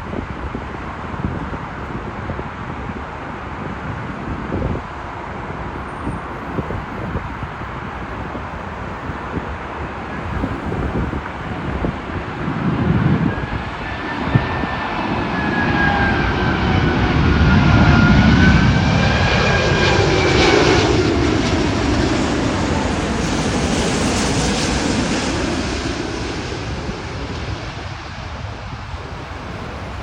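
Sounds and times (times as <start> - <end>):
jet engines passing overhead: 0.0 - 30.0.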